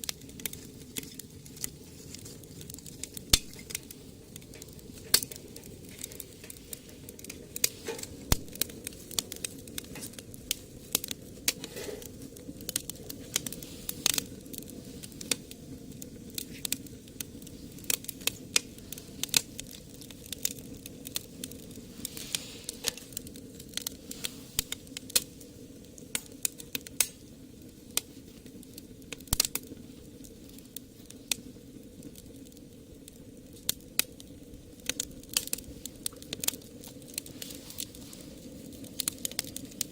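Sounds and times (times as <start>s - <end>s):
steady low rush of stove: 0.0s - 39.9s
wood fire crackling and popping: 0.0s - 39.9s.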